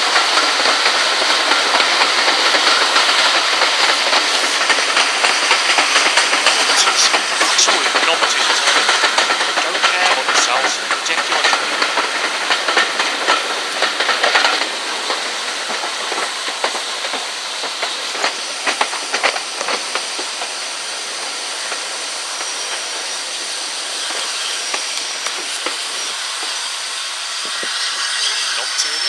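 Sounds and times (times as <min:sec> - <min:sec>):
train running noise: 0:00.0 - 0:29.0
wheels clicking over rail joints: 0:00.0 - 0:29.0.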